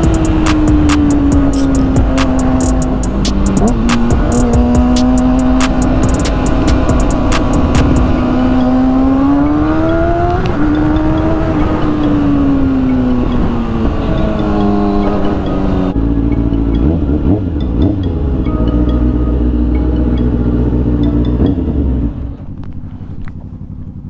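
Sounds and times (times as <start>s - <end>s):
motorcycle engine accelerating: 0.0s - 24.0s
road and wind noise: 0.0s - 24.0s.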